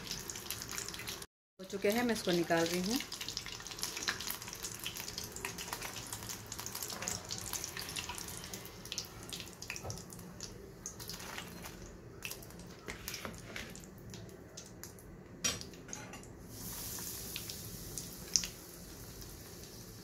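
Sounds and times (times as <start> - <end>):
oil sizzling in a frying pan: 0.0 - 13.8, 16.4 - 20.0.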